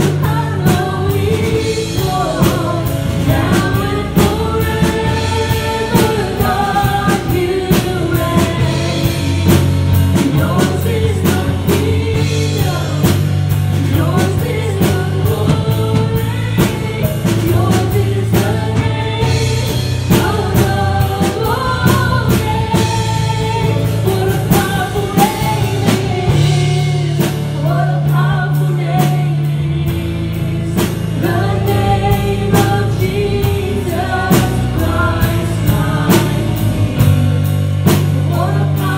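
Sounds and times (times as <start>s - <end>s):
drum kit beat: 0.0s - 38.9s
keyboard: 0.0s - 38.9s
low bass notes: 0.0s - 38.9s
woman singing: 0.0s - 38.9s.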